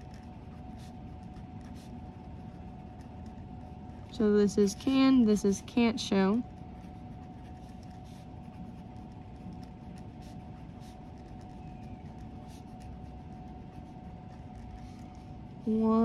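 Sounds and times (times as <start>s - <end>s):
pen scratching on paper: 0.0s - 16.0s
steady hum: 0.0s - 16.0s.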